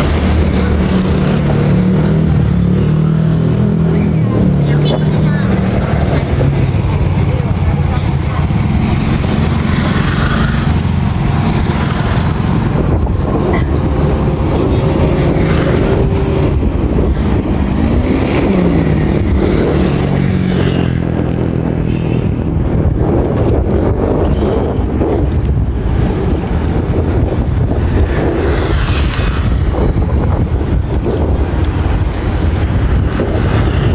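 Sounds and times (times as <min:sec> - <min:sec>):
road noise: 0:00.0 - 0:33.9.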